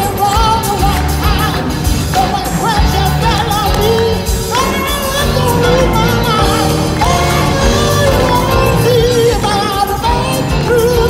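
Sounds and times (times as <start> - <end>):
amplified band with steady beat: 0.0 - 11.0
lead voice singing with vibrato: 0.0 - 11.0
gospel choir singing: 0.9 - 11.0.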